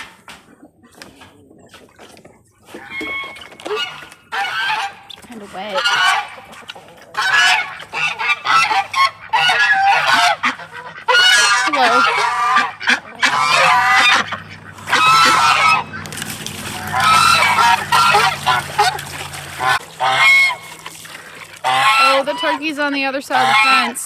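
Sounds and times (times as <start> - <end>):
geese honking: 2.7 - 24.0.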